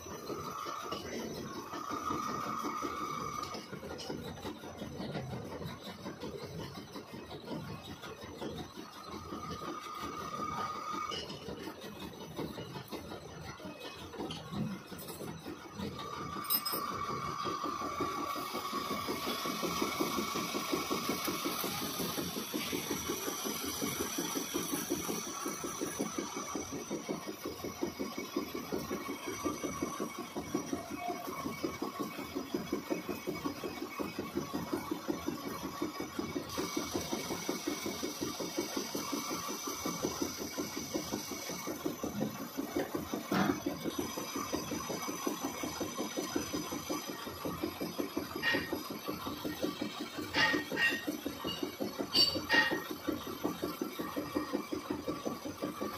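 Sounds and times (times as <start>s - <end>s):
metal lathe cutting steel: 0.0s - 6.8s, 15.0s - 55.9s.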